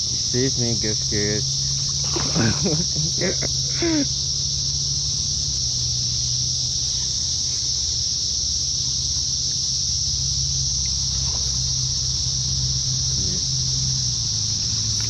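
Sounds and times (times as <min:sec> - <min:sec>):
cicadas droning: 0:00.0 - 0:15.0
low steady hum: 0:00.0 - 0:15.0.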